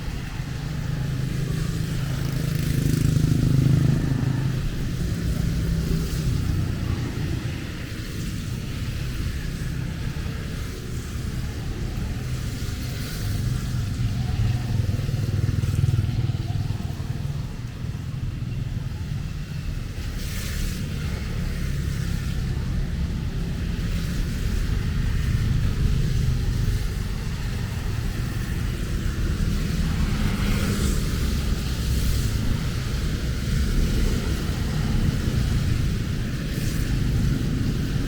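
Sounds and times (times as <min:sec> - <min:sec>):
light rain: 0:00.0 - 0:38.0
traffic passing on wet road: 0:00.0 - 0:38.0.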